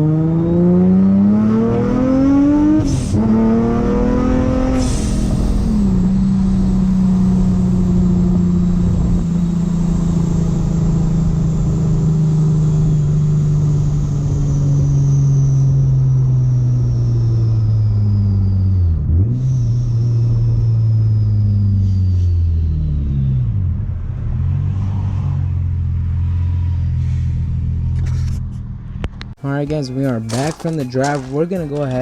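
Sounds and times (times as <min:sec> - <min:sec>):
car engine running: 0:00.0 - 0:24.2, 0:25.8 - 0:32.0
supercharger whine: 0:00.0 - 0:29.4.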